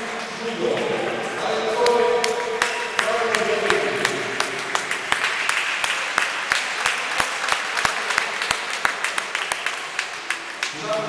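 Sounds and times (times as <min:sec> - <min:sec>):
spectators applauding: 0:00.0 - 0:11.0.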